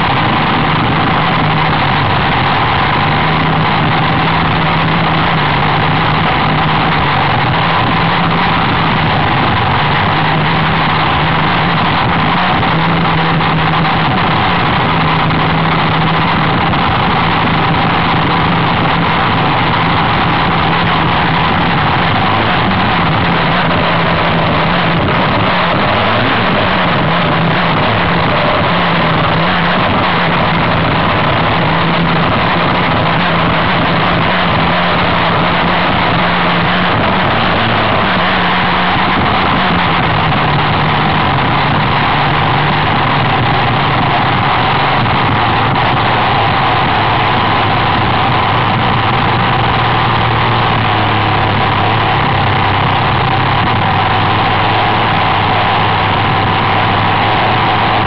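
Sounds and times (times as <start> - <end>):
dense rushing noise: 0.0 - 58.0
racing boat engine running: 0.0 - 58.0.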